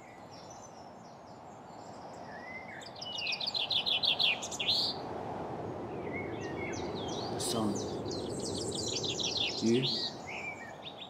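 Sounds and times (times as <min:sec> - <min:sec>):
birds singing: 0:00.0 - 0:05.0, 0:05.9 - 0:11.0.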